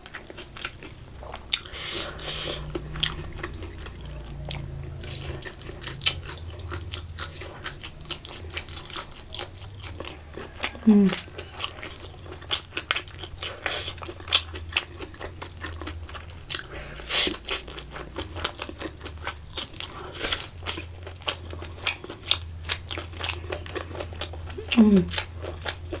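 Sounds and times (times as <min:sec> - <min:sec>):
low steady hum: 0:00.0 - 0:26.0
person chewing crunchy food: 0:00.0 - 0:26.0.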